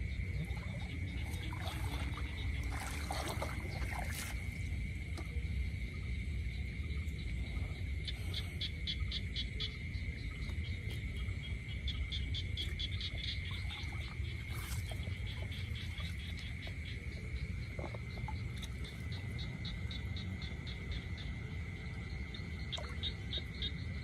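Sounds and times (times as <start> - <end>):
insects trilling: 0.0 - 24.0
pulsing insect chirp: 0.0 - 24.0.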